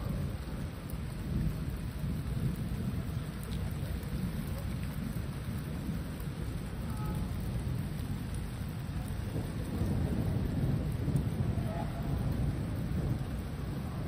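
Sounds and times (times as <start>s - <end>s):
rain falling: 0.0s - 14.0s
thunder rumbling: 0.0s - 14.0s.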